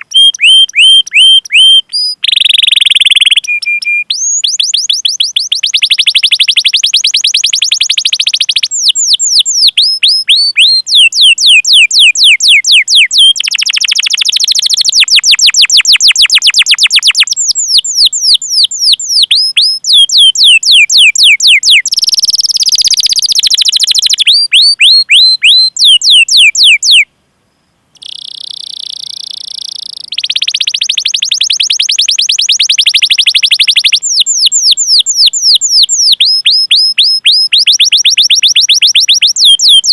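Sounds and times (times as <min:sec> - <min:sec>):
canary singing: 0:00.0 - 0:27.1, 0:28.0 - 0:39.9.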